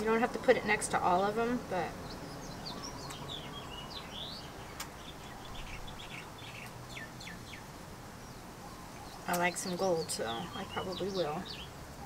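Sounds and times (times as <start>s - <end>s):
small birds chirping: 0.0s - 12.0s
steady low hiss: 0.0s - 12.0s.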